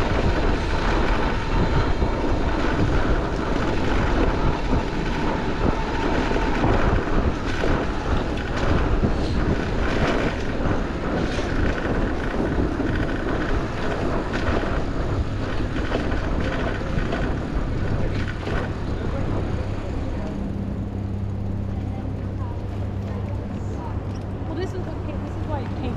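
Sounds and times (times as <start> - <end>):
city traffic noise: 0.0 - 25.9
wind rushing over microphone: 0.0 - 25.9.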